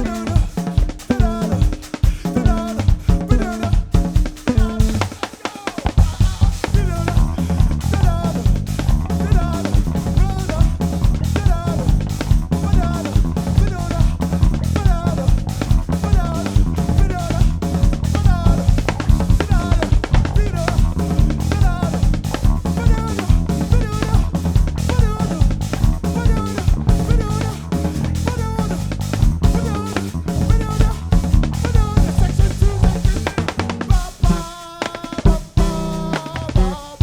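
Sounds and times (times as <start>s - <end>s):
live band music: 0.0s - 37.0s.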